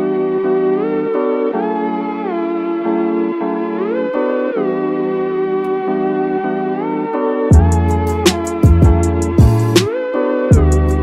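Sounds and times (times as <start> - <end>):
gliding lead melody: 0.0 - 11.0.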